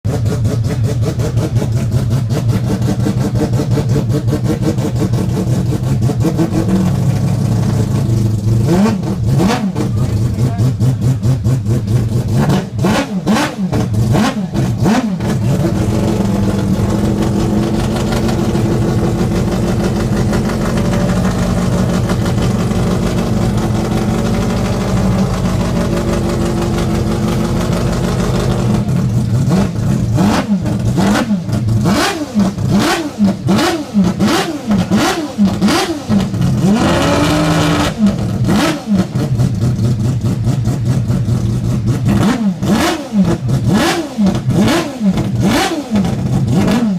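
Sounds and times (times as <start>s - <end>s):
rotary engine revving: 0.1s - 46.9s.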